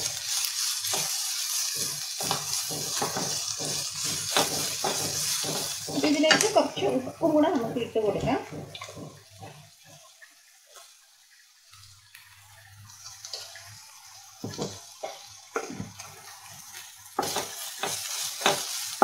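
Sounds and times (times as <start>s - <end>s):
spatula scraping vegetables: 0.0s - 11.0s, 13.0s - 19.0s
vegetables sizzling in oil: 0.0s - 19.0s.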